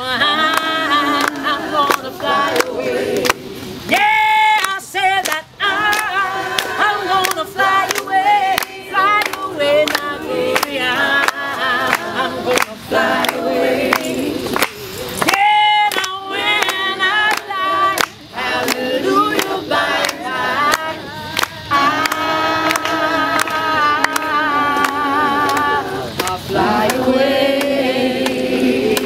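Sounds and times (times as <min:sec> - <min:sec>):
group singing unaccompanied: 0:00.0 - 0:29.0
hand claps: 0:00.4 - 0:03.4, 0:04.6 - 0:29.0.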